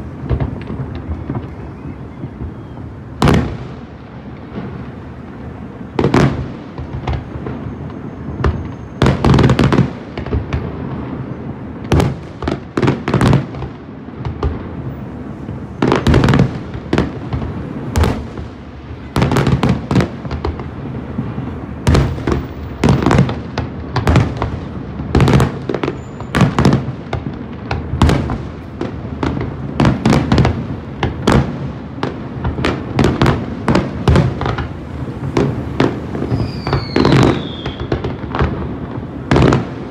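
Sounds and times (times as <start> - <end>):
fireworks bursting with loud bangs: 0.0 - 39.9.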